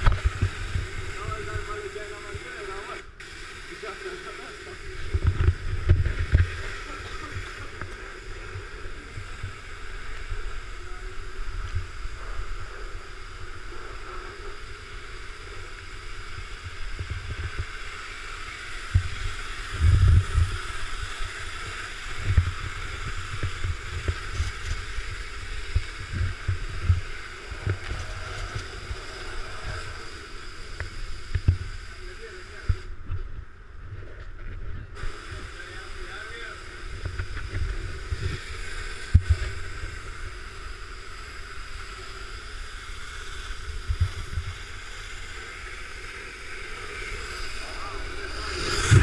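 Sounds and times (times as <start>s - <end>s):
pressure washer jet hissing: 0.0s - 32.9s, 35.0s - 49.0s.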